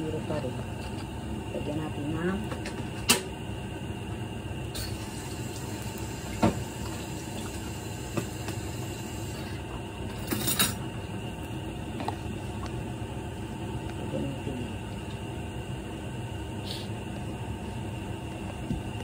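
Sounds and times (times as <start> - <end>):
gas stove burner running: 0.0 - 19.0.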